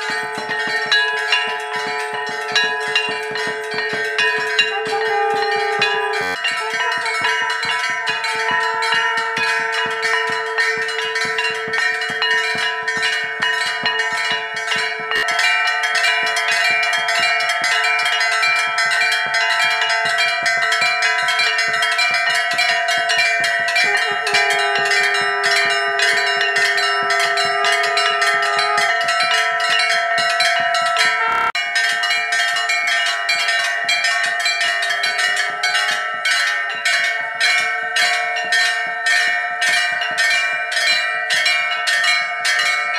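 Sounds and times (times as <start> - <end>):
brass bells ringing: 0.0 - 42.9.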